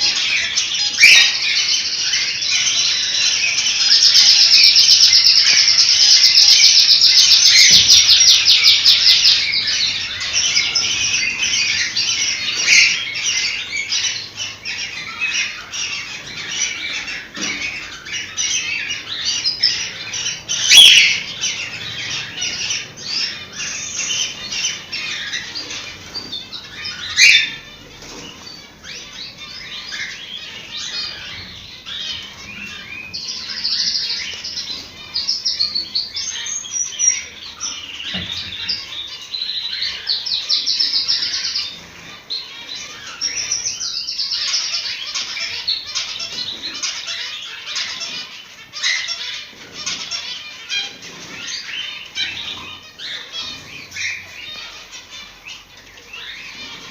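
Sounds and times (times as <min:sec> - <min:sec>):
cockatiels chirping and squawking: 0:00.0 - 0:56.9.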